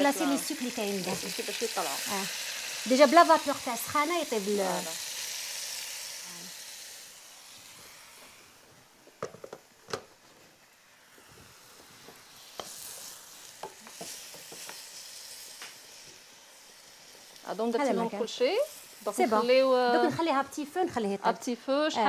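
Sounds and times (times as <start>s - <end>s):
liquid sizzling in a pot: 0.0s - 22.0s.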